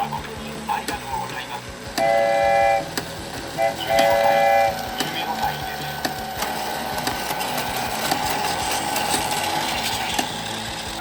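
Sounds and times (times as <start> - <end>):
wheels clicking on track: 0.0 - 11.0
toy train motor whirring: 0.5 - 11.0.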